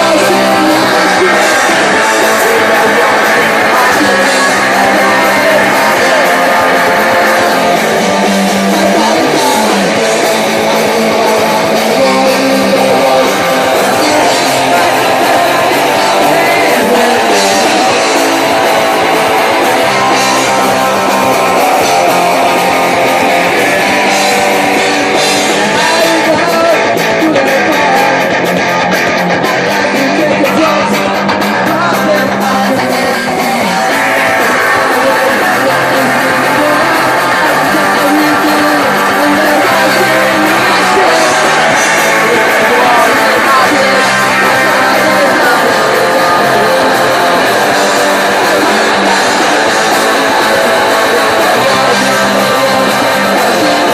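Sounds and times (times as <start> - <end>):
person singing: 0.0 - 53.9
punk band playing live: 0.0 - 53.9.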